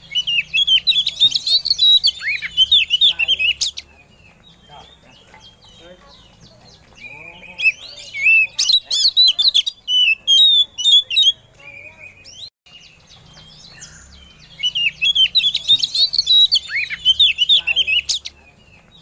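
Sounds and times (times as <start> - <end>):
bird singing whistles and chatter: 0.0 - 19.0.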